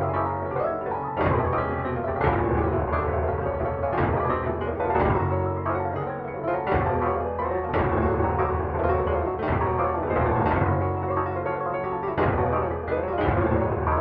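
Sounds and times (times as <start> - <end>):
midi piano playing: 0.0 - 14.0.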